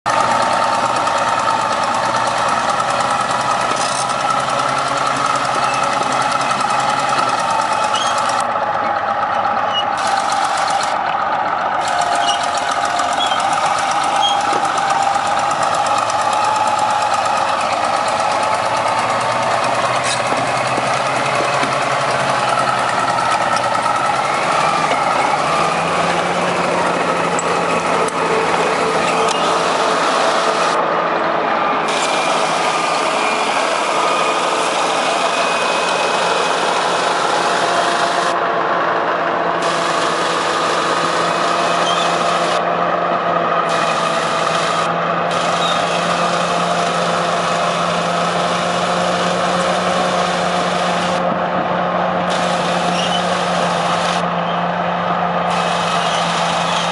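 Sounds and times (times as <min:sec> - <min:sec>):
heavy diesel machinery engine drone: 0:00.1 - 0:56.9.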